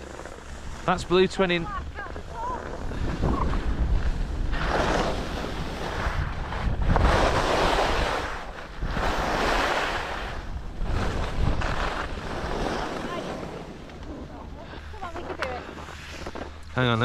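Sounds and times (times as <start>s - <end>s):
skis scraping over snow: 0.0s - 17.0s
wind buffeting microphone: 0.0s - 17.0s.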